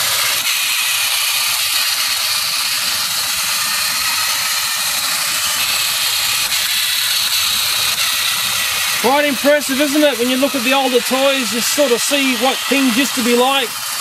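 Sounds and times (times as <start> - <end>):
toy train motor whirring: 0.0 - 14.0.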